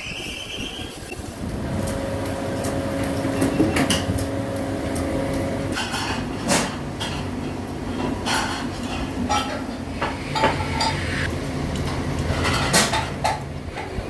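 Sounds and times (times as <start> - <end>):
steady hum: 0.8 - 14.0.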